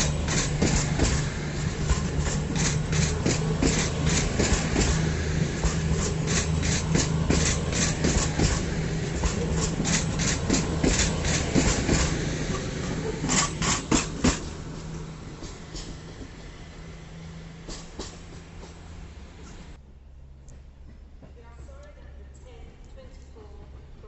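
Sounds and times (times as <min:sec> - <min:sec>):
train wheels clicking on rails: 0:00.0 - 0:19.8
engine hum: 0:00.0 - 0:21.2.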